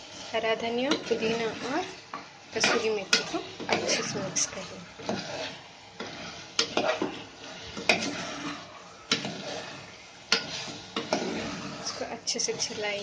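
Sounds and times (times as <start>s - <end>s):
masala sizzling: 0.0s - 13.0s
spoon scraping against pot: 0.0s - 13.0s.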